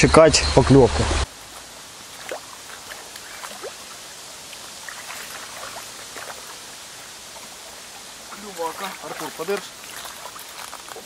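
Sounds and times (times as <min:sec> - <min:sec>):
river water lapping: 0:01.0 - 0:11.0
small water splashes: 0:01.2 - 0:11.0.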